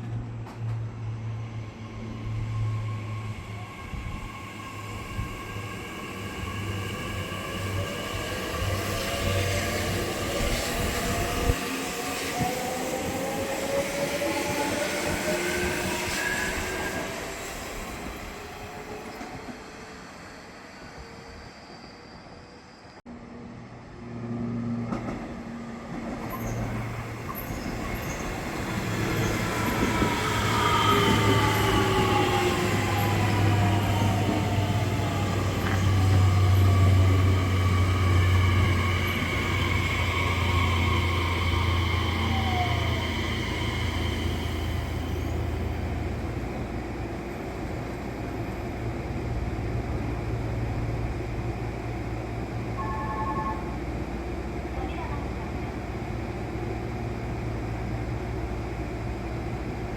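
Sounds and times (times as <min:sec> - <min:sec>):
low train hum: 0:00.0 - 0:59.9
rail noise: 0:00.0 - 0:59.9.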